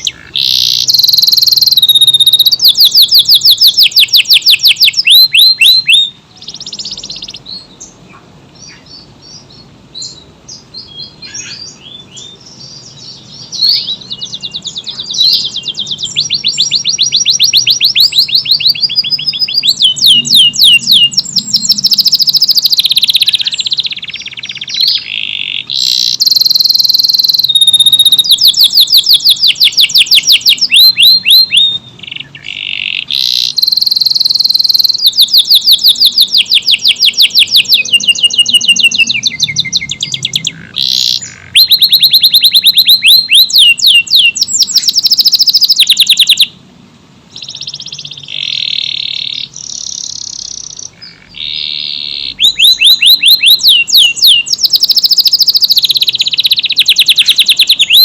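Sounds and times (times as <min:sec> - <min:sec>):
canary singing fast trills: 0:00.0 - 0:46.6, 0:47.3 - 0:58.0.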